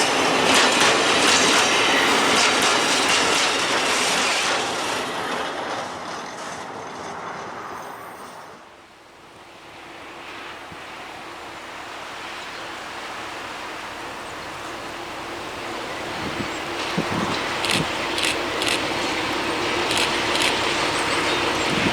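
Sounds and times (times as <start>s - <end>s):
diesel locomotive engine: 0.0s - 21.9s
freight train running past: 0.0s - 21.9s.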